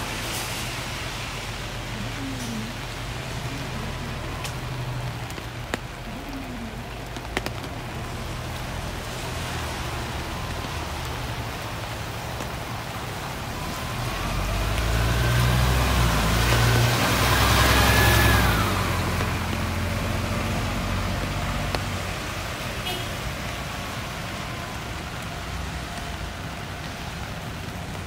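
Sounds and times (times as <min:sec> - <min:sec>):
car approaching with whine: 0:00.0 - 0:28.0
steady rain falling: 0:00.0 - 0:28.0.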